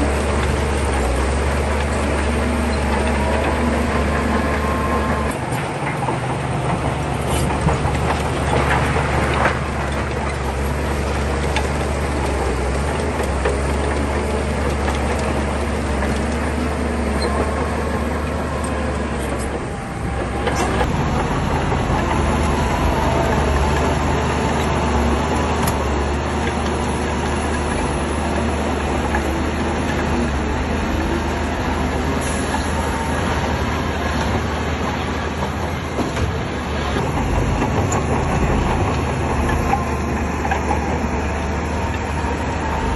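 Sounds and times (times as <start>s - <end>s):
bulldozer diesel engine droning: 0.0s - 42.9s
steel tracks clanking: 0.0s - 42.9s.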